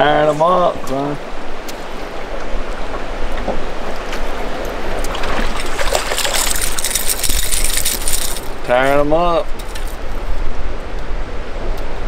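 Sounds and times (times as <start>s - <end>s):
water splashing and churning: 0.0s - 10.2s.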